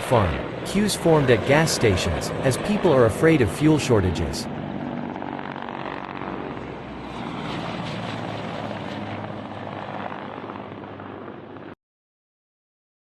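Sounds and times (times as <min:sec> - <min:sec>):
helicopter rotor and engine: 0:00.0 - 0:11.8.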